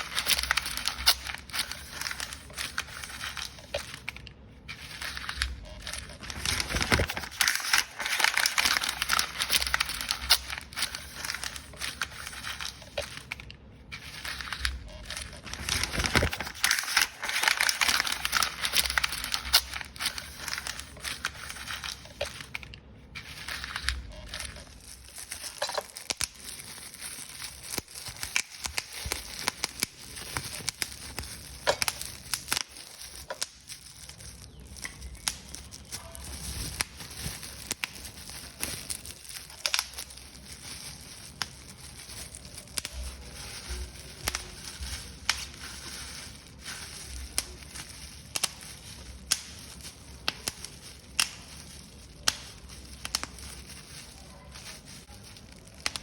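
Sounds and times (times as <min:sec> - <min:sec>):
paper crumpling by hand: 0:00.0 - 0:56.0.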